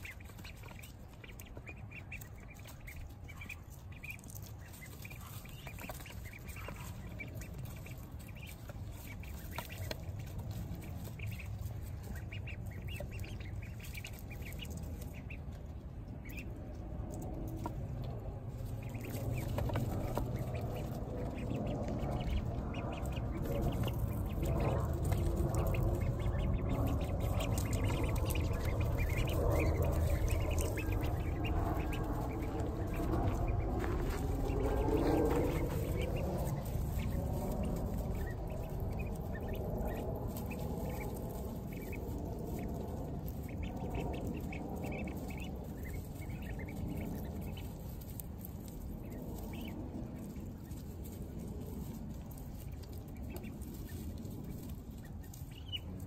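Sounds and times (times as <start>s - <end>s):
ducklings peeping and calling: 0.0s - 56.0s
scratching in wood shavings: 0.0s - 56.0s.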